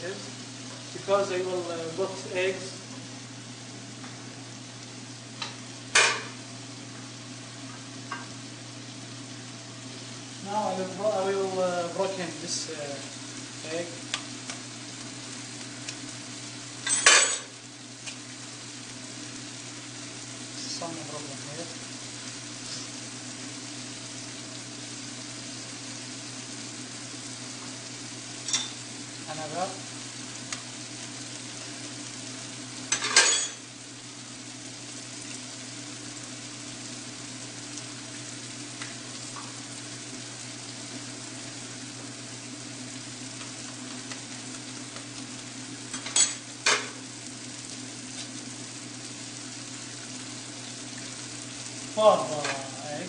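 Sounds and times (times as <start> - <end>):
eggs sizzling in a pan: 0.0 - 53.0.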